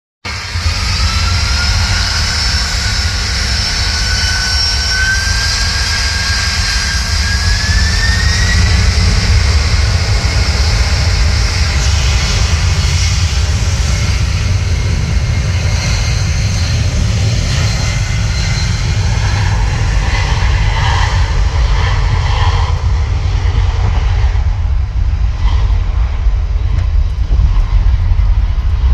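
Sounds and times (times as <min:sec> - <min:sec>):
jet engine whine and rumble: 0:00.2 - 0:28.9.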